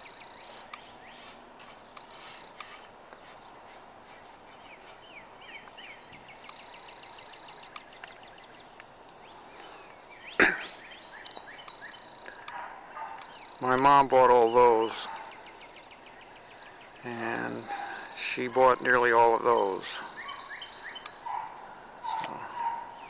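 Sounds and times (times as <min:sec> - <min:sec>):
faint hiss of open air: 0:00.0 - 0:23.0
songbirds chirping and singing: 0:00.0 - 0:23.0.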